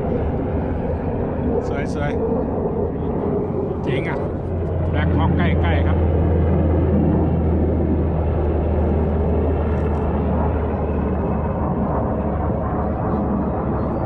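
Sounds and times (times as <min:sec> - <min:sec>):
helicopter flying close by: 0:00.0 - 0:14.0.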